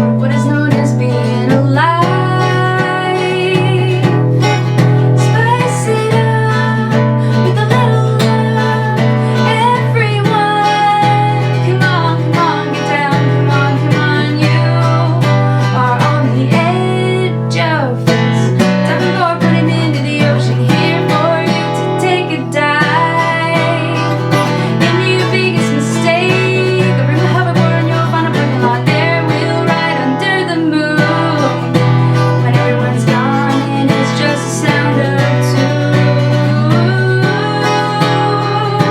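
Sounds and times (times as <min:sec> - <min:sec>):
acoustic guitar: 0:00.0 - 0:38.9
woman singing: 0:00.0 - 0:38.9.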